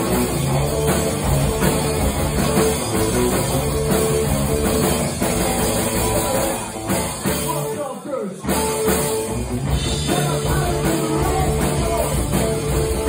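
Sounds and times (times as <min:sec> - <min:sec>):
electric bass: 0:00.0 - 0:07.6, 0:08.4 - 0:13.0
electric guitar: 0:00.0 - 0:07.8, 0:08.4 - 0:13.0
drum kit: 0:00.0 - 0:13.0.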